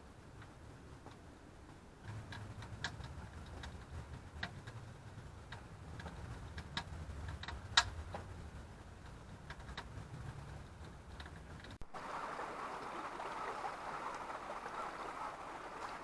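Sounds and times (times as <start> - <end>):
wood fire crackling: 0.1 - 16.0.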